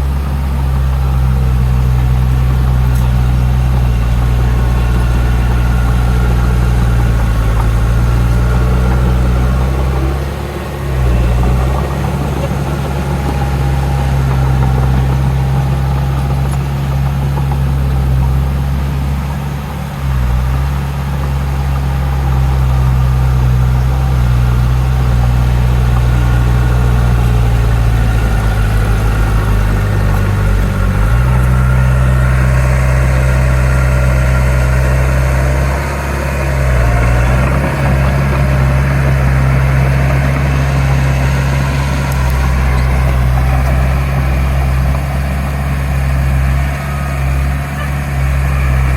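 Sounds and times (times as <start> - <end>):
harsh machinery working noise: 0.0 - 48.9
heavy diesel engine running: 0.0 - 48.9.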